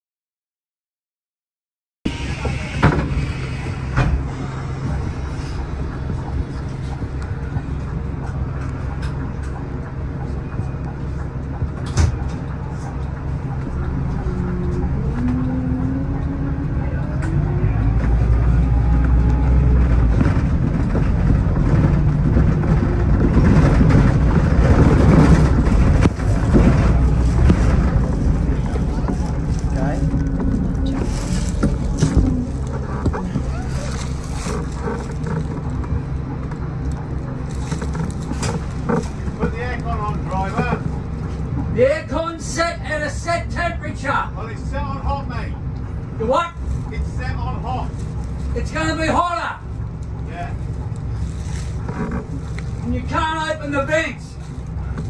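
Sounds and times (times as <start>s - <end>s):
bus engine humming: 2.1s - 55.0s.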